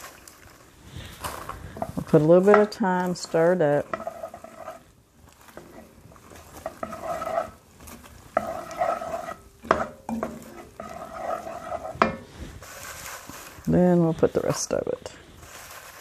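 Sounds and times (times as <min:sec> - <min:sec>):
spoon stirring popcorn in syrup: 0:00.0 - 0:16.0.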